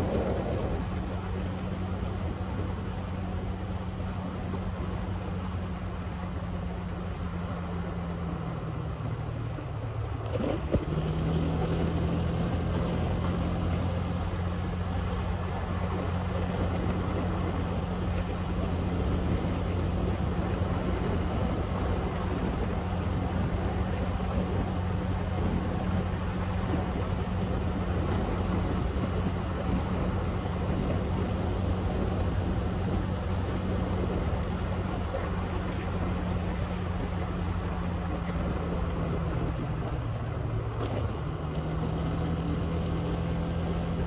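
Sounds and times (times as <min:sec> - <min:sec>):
road and wind noise: 0:00.0 - 0:44.0.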